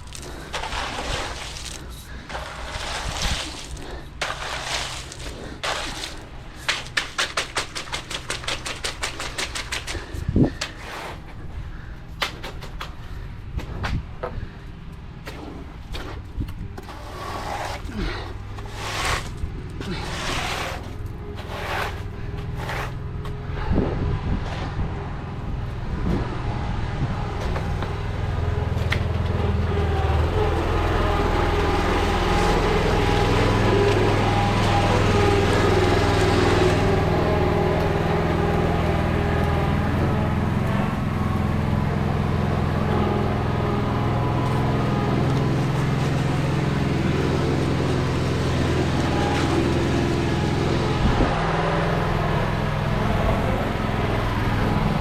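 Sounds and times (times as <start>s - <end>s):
rushing grinding noise: 0.0s - 11.9s, 16.8s - 55.0s
engine running: 0.0s - 55.0s.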